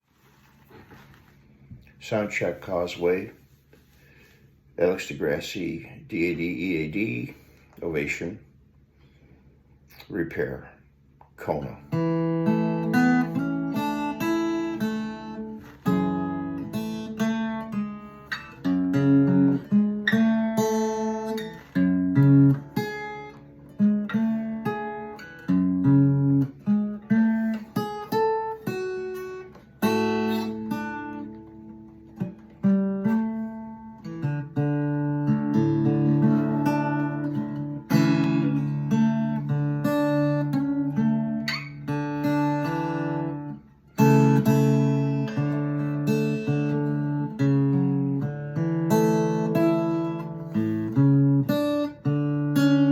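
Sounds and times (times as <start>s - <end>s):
fingerpicked acoustic guitar: 0.0s - 5.0s, 11.4s - 52.9s.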